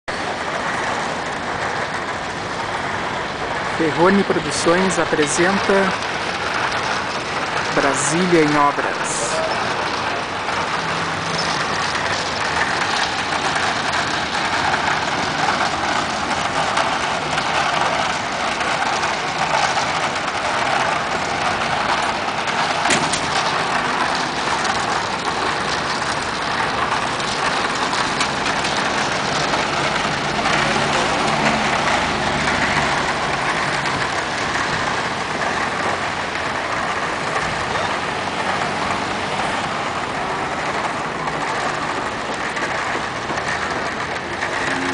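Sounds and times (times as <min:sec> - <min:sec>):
road traffic rushing: 0:00.0 - 0:44.9.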